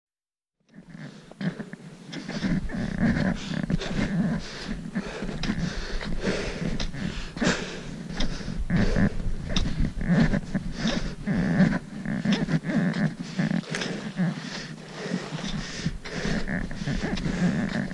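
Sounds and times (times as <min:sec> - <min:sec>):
heavy breathing: 0:00.7 - 0:17.9.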